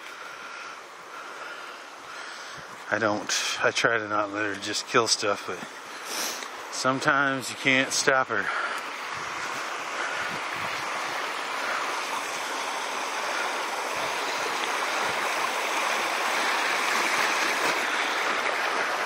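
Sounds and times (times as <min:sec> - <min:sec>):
creek rushing over rocks: 0:00.0 - 0:19.0.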